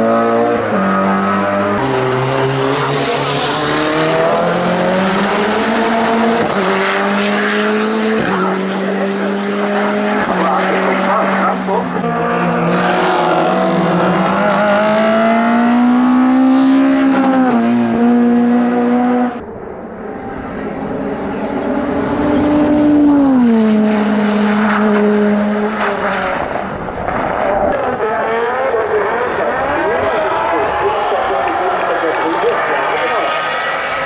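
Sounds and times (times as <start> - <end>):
race car engines at full throttle: 0.0 - 34.0.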